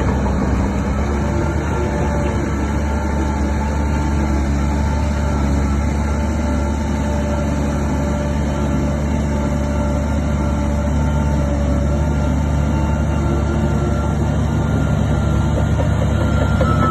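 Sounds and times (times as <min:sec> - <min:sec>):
heavy diesel engine droning: 0:00.0 - 0:16.9.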